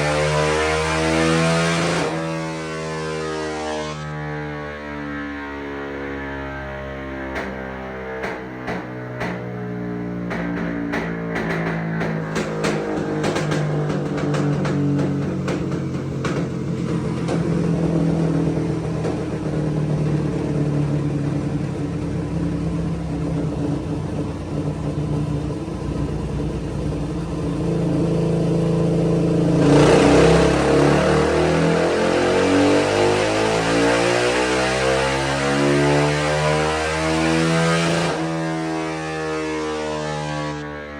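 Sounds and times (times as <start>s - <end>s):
motorcycle engine running: 4.6s - 40.9s.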